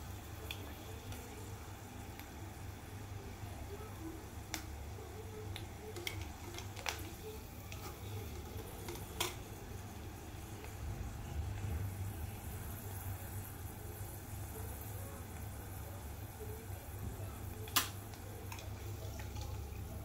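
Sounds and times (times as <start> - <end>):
food frying in hot oil: 0.0 - 20.0
oil crackling and popping: 0.0 - 20.0
steady low hum: 0.0 - 20.0.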